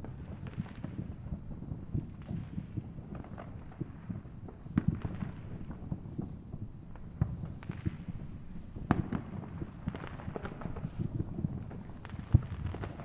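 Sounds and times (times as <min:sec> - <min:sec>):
fireworks popping and crackling: 0:00.0 - 0:13.0
fireworks bangs: 0:02.0 - 0:06.4, 0:07.0 - 0:13.0.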